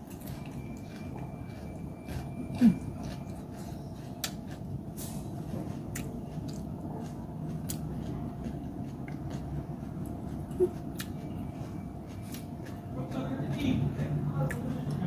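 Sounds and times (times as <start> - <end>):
person chewing salad: 0.0 - 15.0.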